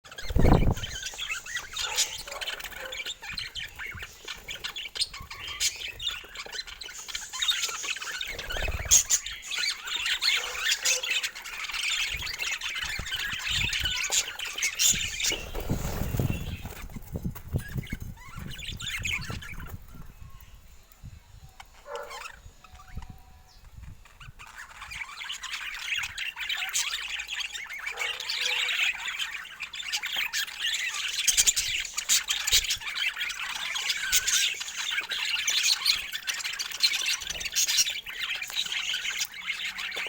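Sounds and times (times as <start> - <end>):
budgerigars chattering and squawking: 0.1 - 40.0.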